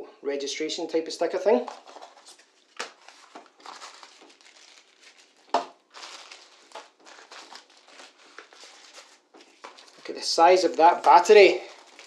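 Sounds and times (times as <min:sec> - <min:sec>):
tissue paper crinkling: 0:01.7 - 0:12.0.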